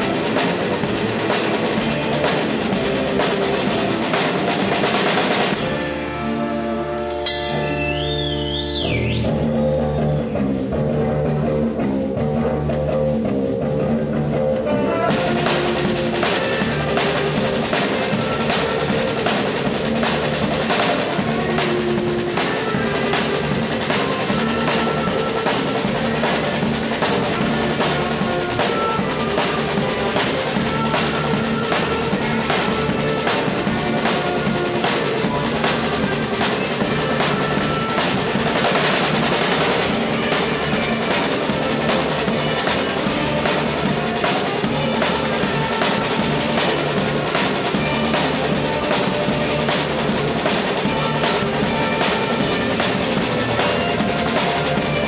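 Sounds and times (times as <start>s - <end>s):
drum kit with cymbals: 0.0s - 55.0s
electric guitars and bass: 0.0s - 55.0s.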